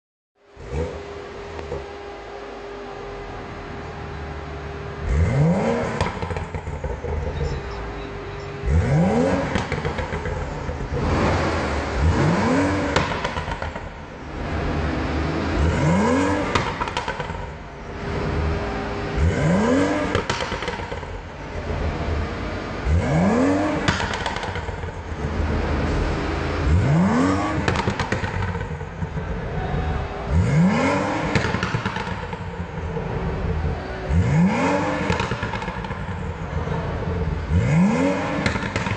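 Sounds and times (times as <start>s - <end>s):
car engine revving with crackles: 0.4s - 38.9s.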